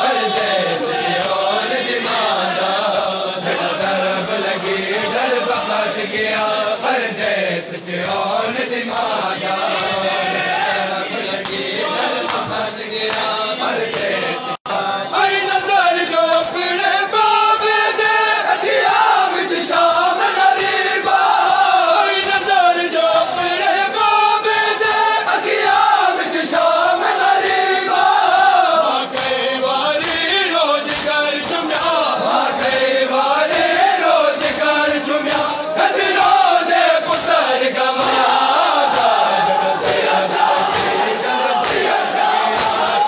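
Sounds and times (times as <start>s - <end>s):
men chanting in unison: 0.0s - 43.0s.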